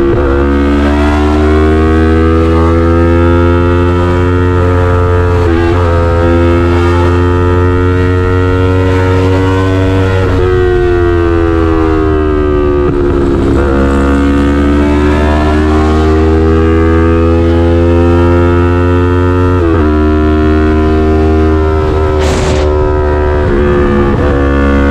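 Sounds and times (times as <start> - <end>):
motorcycle engine at highway speed: 0.0 - 24.9.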